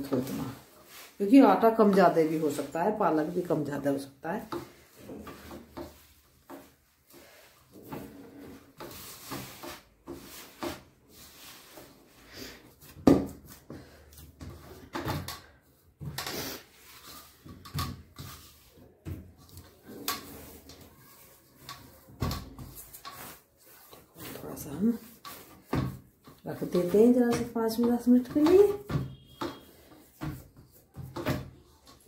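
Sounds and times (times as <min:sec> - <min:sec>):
hand kneading dough: 0:00.0 - 0:32.0.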